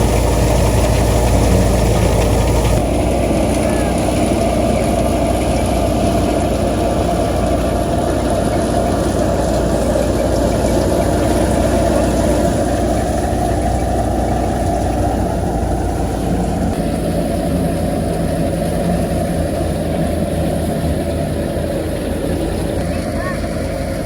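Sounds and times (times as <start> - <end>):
threshing machine running: 0.0 - 24.0.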